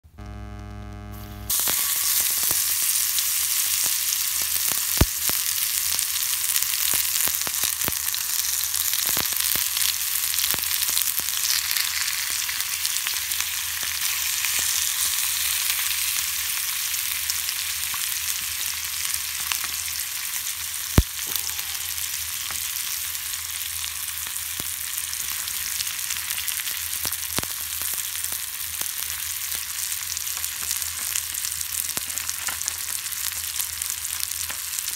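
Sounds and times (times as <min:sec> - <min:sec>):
meat sizzling in a skillet: 0:01.1 - 0:34.9.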